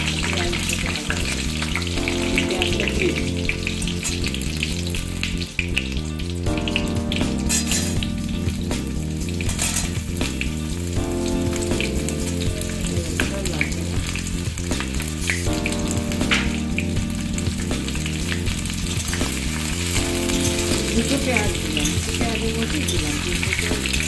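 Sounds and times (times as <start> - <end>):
potatoes sizzling in hot oil: 0.0 - 24.0.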